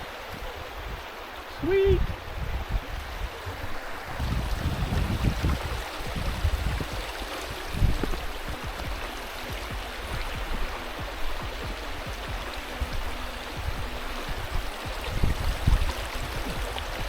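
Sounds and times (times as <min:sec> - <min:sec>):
river water rushing: 0:00.0 - 0:17.0
low thuds on microphone: 0:02.0 - 0:17.0.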